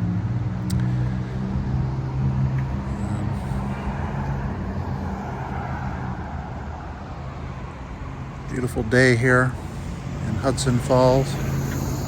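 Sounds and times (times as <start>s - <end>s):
heavy vehicle engine hum: 0.0s - 12.0s.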